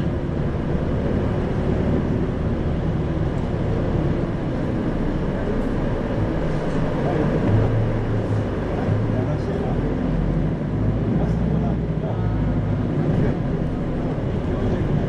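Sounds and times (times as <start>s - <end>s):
bus diesel engine hum: 0.0s - 15.0s
road and drivetrain noise: 0.0s - 15.0s.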